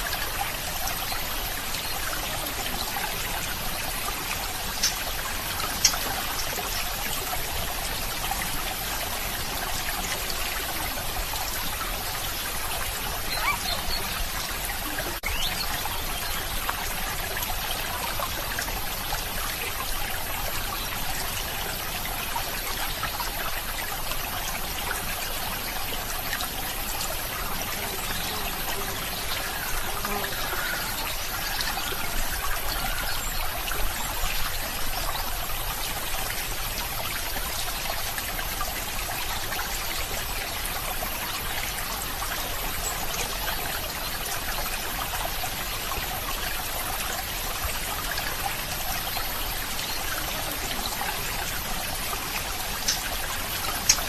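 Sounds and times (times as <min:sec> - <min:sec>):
stream trickling and splashing: 0:00.0 - 0:54.0.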